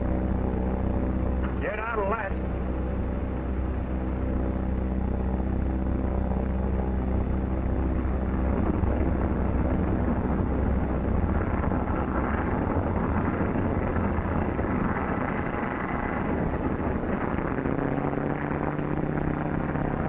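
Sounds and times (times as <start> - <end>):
propeller plane engines droning: 0.0 - 20.0.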